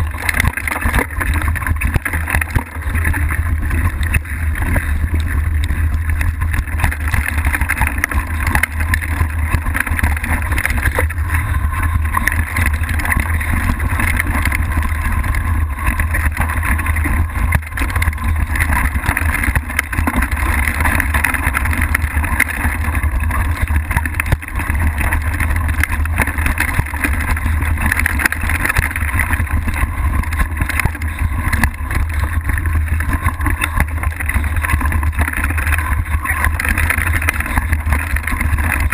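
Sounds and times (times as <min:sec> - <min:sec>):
bike knocks and rattles: 0:00.0 - 0:38.9
bike tyres rumbling over dirt: 0:00.0 - 0:38.9.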